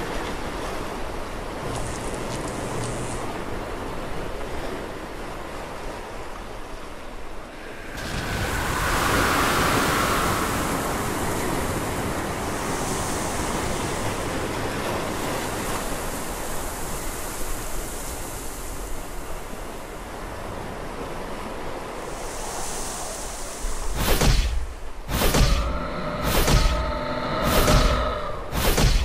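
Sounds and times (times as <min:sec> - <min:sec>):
ocean surf washing on shore: 0:00.0 - 0:29.0.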